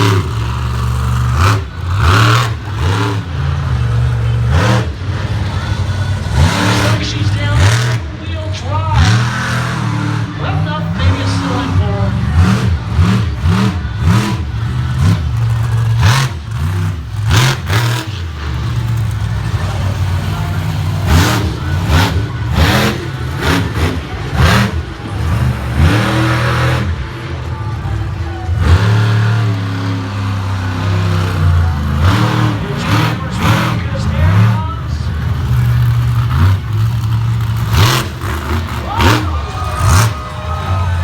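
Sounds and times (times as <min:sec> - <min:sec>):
truck engine revving hard: 0:00.0 - 0:41.0.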